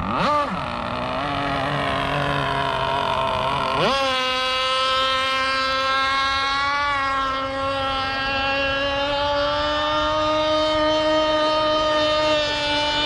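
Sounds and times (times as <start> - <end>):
model boat engine high-pitched whine: 0.0 - 13.0.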